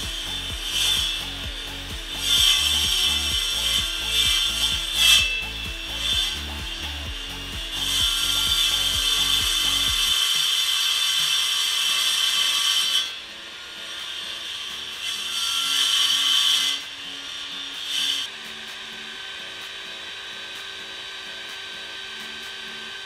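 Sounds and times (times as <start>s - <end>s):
table saw cutting wood: 0.0s - 23.0s.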